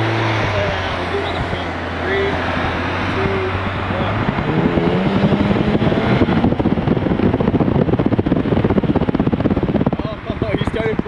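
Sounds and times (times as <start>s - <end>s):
car engines accelerating: 0.0s - 11.0s.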